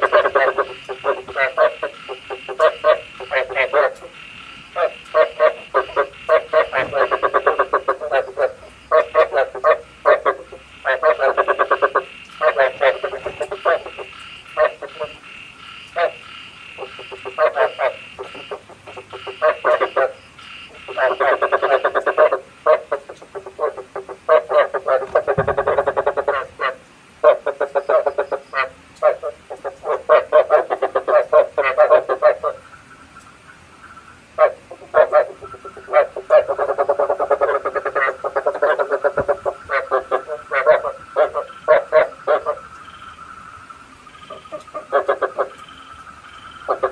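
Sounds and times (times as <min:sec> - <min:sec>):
frogs croaking: 0:00.0 - 0:46.9.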